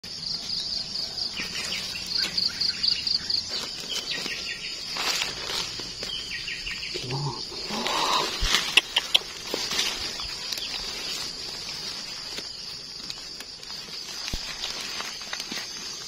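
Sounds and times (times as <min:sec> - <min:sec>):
insects trilling: 0:00.0 - 0:16.0
rustling of leaf litter: 0:00.1 - 0:16.0
birds calling: 0:00.2 - 0:16.0.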